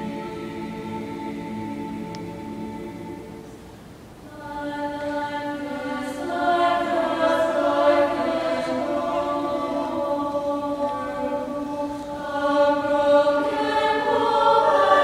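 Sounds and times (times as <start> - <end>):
mixed choir singing: 0.0 - 3.6, 4.3 - 15.0.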